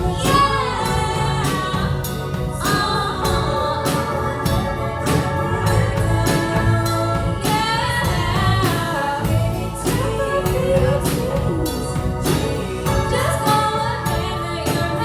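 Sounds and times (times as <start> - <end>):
live band playing pop-soul song: 0.0 - 15.0
wordless vocal line: 0.0 - 15.0.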